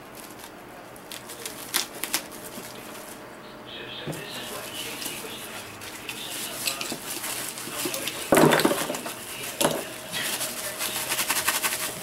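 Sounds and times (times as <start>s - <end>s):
bubble wrap crinkling: 0.0s - 3.2s, 4.2s - 12.0s.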